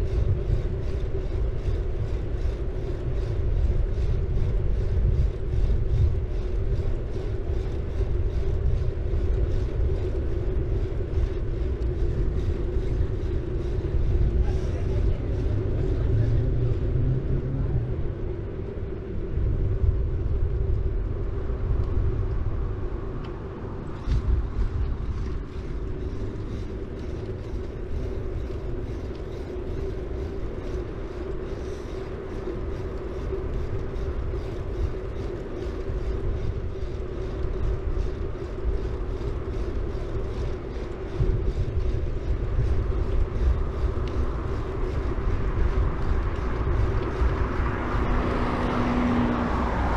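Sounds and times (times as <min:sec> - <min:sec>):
bike tyre and road rumble: 0:00.0 - 0:49.9.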